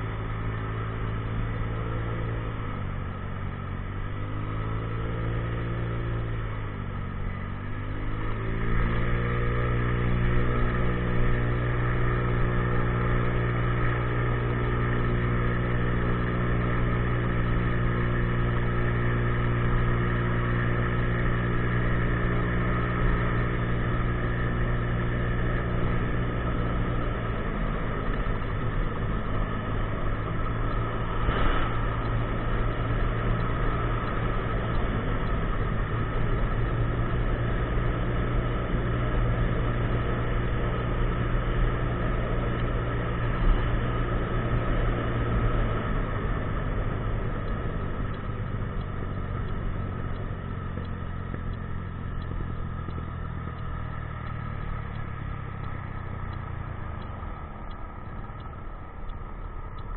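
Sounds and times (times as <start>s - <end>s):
road noise: 0.0s - 59.9s
scooter engine running: 0.0s - 59.9s.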